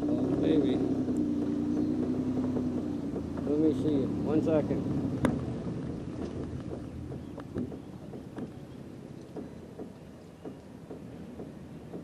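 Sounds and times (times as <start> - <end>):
small boat motor running: 0.0 - 12.0
light clicks and knocks: 1.1 - 4.0, 5.2 - 12.0.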